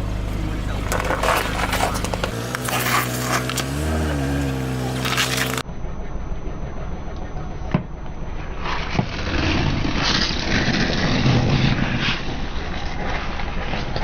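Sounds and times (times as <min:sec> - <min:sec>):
car engine running: 0:00.0 - 0:14.0
car rolling rumble: 0:00.0 - 0:14.0.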